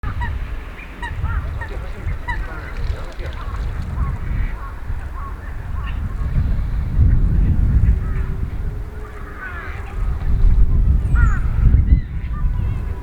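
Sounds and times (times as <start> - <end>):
ducks whistling calls: 0.0 - 13.0.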